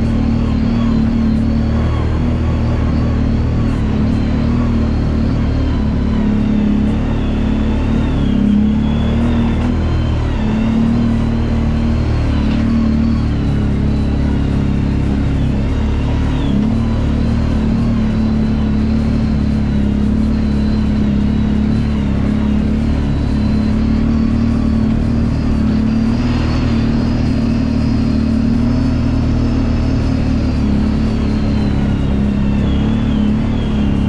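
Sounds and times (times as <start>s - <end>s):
atv engine running: 0.0s - 34.0s
faint high whine: 0.0s - 34.0s.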